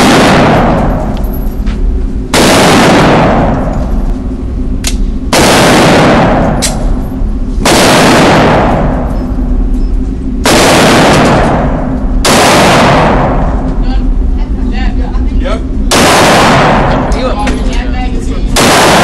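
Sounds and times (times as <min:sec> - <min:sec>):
gunshots echoing indoors: 0:00.0 - 0:09.6, 0:10.3 - 0:13.9, 0:15.7 - 0:17.4, 0:18.5 - 0:19.0.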